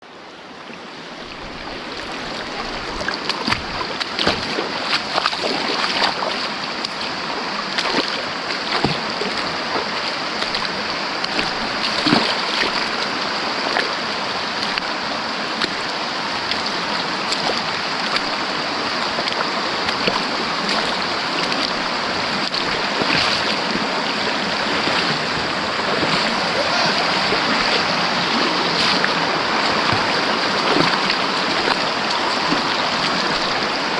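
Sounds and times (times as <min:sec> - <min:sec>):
stream flowing over rocks: 0:00.0 - 0:33.9
small water splashes: 0:00.7 - 0:33.9.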